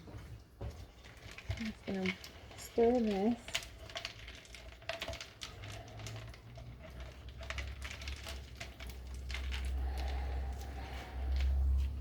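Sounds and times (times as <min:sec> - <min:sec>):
ice cubes clicking against container: 0:00.8 - 0:12.0.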